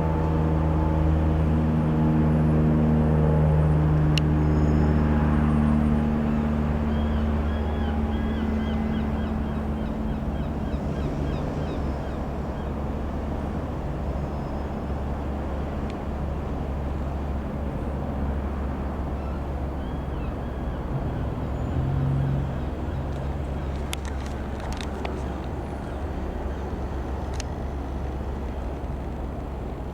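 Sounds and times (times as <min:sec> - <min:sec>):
light aircraft engine droning: 0:00.0 - 0:29.9.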